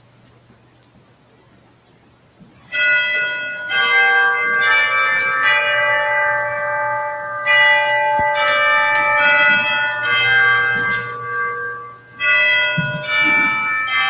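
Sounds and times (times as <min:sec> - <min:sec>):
church bells ringing: 0:02.7 - 0:14.0.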